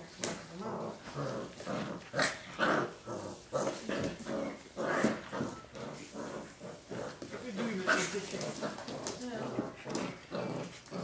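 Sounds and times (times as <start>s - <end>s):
puppy growling and yapping: 0.5s - 11.0s.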